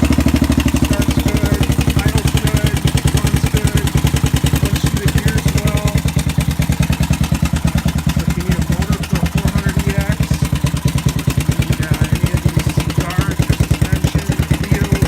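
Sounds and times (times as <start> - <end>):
quad engine idling: 0.0 - 15.0.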